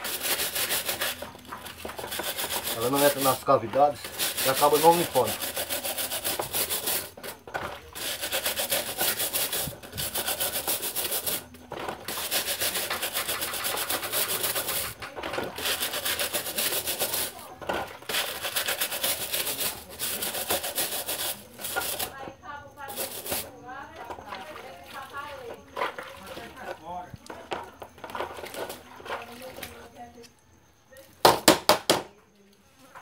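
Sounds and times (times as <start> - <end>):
brush scrubbing metal wire: 0.0 - 26.7.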